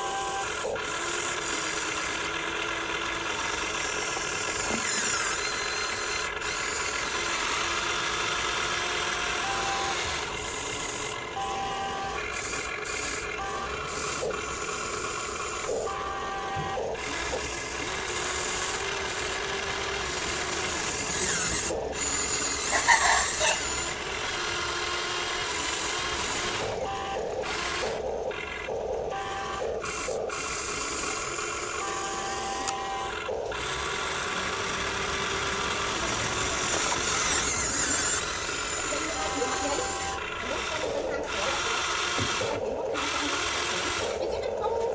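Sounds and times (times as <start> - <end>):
small electric motors whirring: 0.0 - 44.9.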